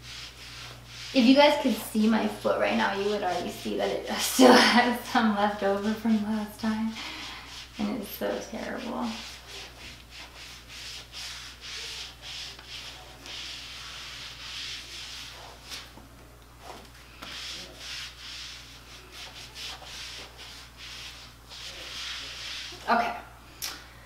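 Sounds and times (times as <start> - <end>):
mitt rubbing on skin: 0.0 - 16.0, 16.6 - 22.9.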